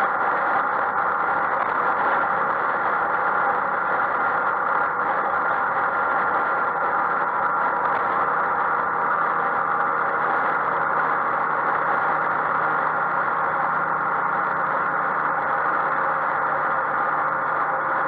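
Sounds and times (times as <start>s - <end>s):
scooter engine cruising: 0.0s - 18.0s
wind and road noise: 0.0s - 18.0s.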